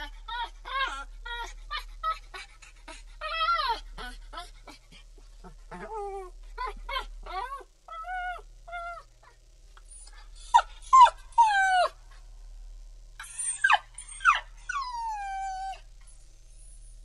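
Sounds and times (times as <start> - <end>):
puppy whining and yelping: 0.0 - 12.2, 13.2 - 17.0.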